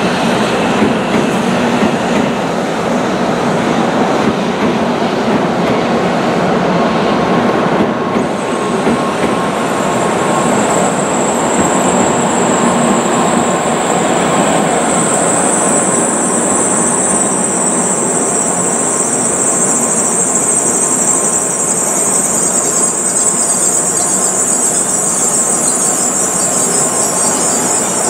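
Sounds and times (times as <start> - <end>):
high-speed train running: 0.0 - 28.0.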